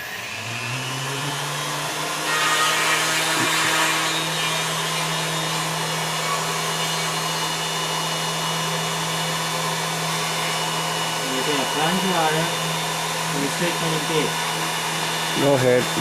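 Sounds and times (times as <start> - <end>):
router cutting wood: 0.0 - 16.0.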